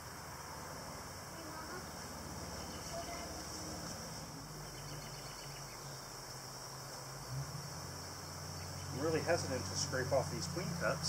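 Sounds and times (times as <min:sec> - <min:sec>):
high hiss: 0:00.0 - 0:11.0
bees buzzing: 0:00.8 - 0:11.0.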